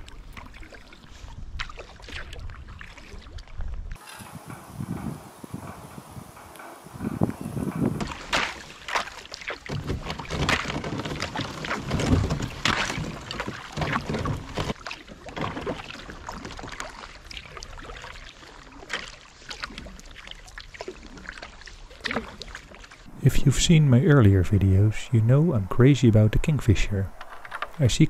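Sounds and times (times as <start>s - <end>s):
paddle splashing in water: 0.0s - 23.4s
water washing along hull: 0.0s - 28.0s.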